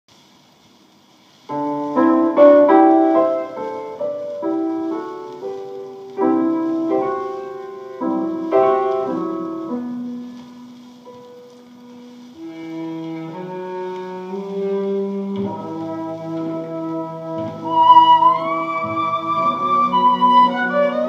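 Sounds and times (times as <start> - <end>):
piano chords and melody: 1.5 - 21.0.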